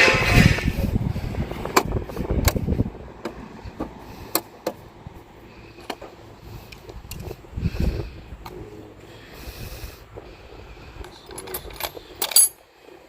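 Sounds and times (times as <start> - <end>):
wind buffeting microphone: 0.0 - 5.4, 6.2 - 12.2.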